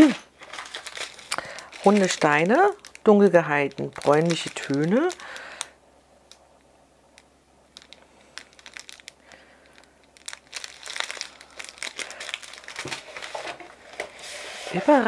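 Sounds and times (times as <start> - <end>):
cellophane wrap crinkling: 0.0 - 15.0.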